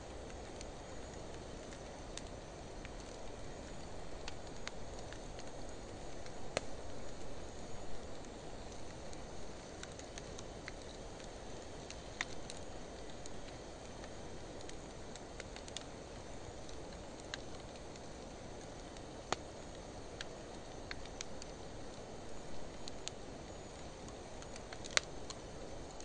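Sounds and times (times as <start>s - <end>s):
fire burning with low rush: 0.0s - 26.0s
wood crackling and popping: 0.0s - 26.0s.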